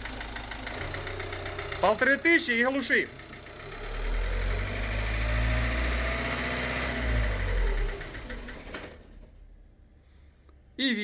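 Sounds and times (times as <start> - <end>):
diesel engine running down: 0.0 - 9.2.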